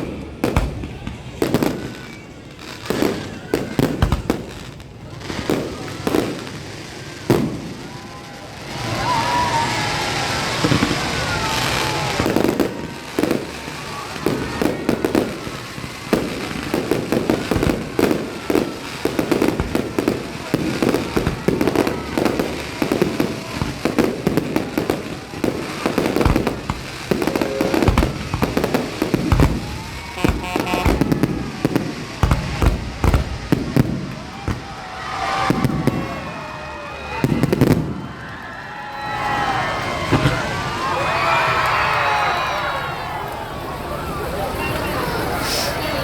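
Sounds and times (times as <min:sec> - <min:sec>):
heavy firework booms: 0:00.0 - 0:36.5, 0:37.2 - 0:38.1, 0:40.0 - 0:41.0
fireworks bangs and crackles: 0:00.0 - 0:46.0.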